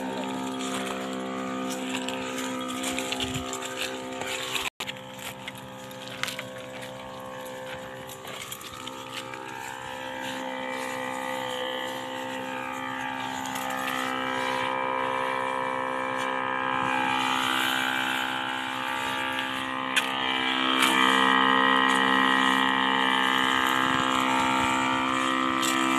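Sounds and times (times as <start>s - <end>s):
crop sprayer engine running: 0.0s - 25.9s.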